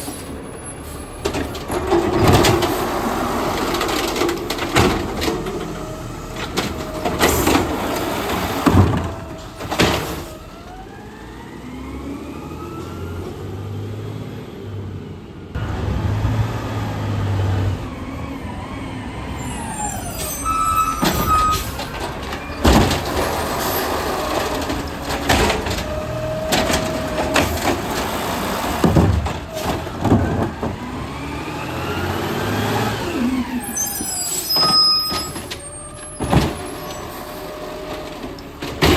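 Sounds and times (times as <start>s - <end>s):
garbage truck engine revving: 0.0s - 38.9s.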